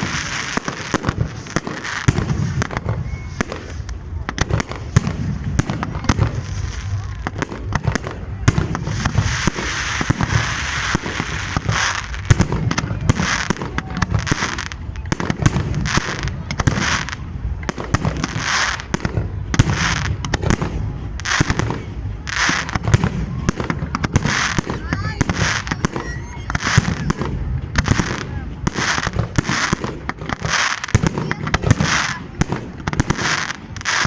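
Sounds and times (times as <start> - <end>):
firework crackling: 0.0 - 34.0.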